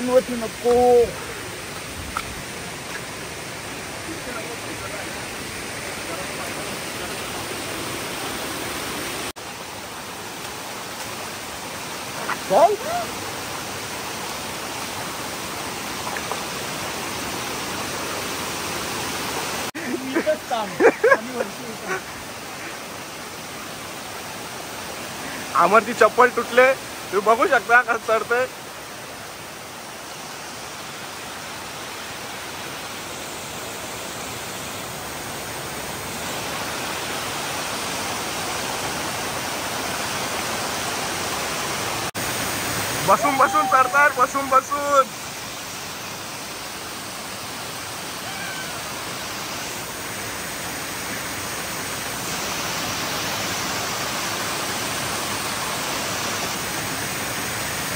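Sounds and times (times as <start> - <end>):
fast-flowing water rushing: 0.0 - 57.9.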